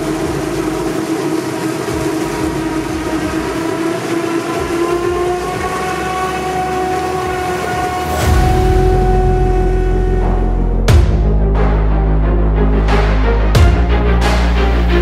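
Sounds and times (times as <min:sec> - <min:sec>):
droning chord music: 0:00.0 - 0:15.0.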